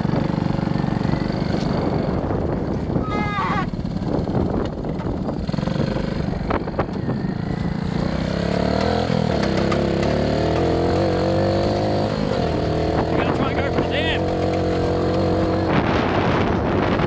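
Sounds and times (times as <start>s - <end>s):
small engine revving: 0.0s - 2.5s, 3.2s - 17.0s.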